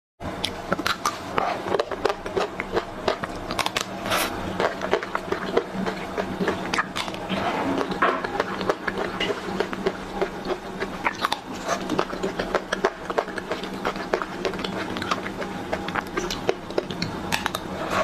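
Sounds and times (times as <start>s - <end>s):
biting crisp coating: 0.4s - 18.0s
chewing crunches: 0.4s - 18.0s.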